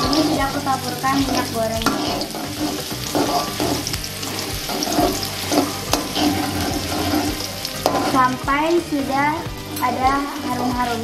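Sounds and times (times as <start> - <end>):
metal spatula scraping wok: 0.0 - 11.0
shallots sizzling in oil: 0.0 - 11.0
spatula clinking: 0.0 - 11.0.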